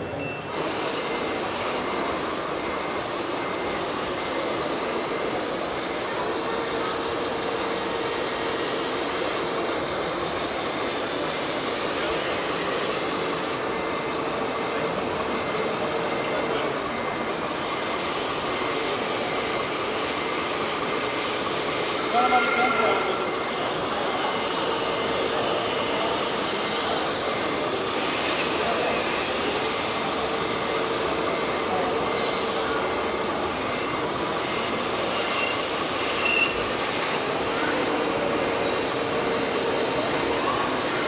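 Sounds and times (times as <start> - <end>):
model trucks running with faint whine: 0.0 - 41.0.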